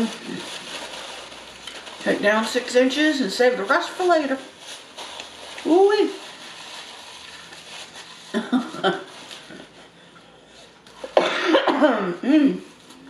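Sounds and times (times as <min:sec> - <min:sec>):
faint mouth and napkin noises: 0:00.0 - 0:11.2, 0:12.4 - 0:13.0.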